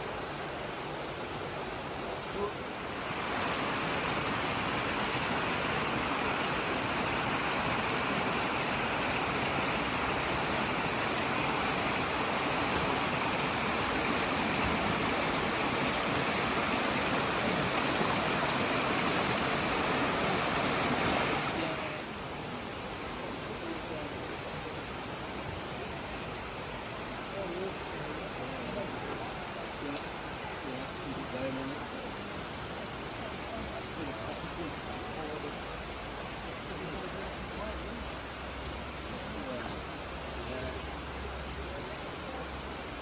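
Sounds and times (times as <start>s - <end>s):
indoor waterfall rushing: 0.0s - 43.0s.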